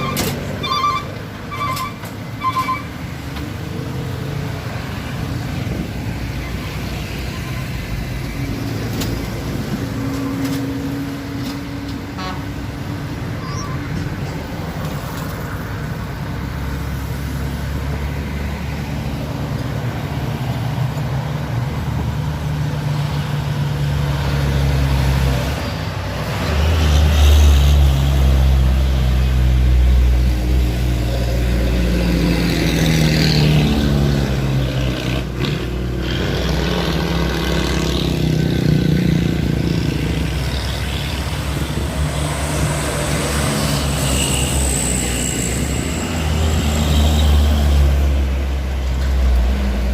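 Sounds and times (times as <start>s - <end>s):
truck engine labouring uphill: 0.0s - 49.9s.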